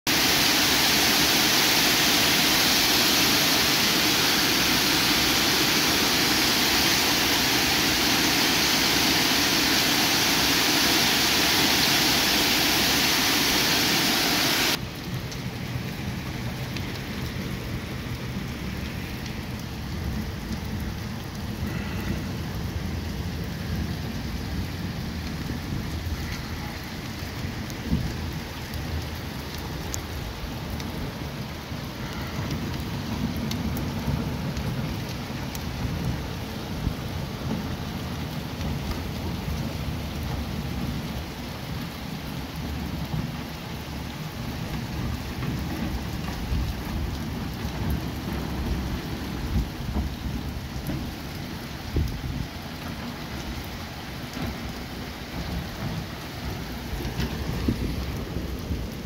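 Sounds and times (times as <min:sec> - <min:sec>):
heavy rain and hail pelting street: 0:00.1 - 0:59.0.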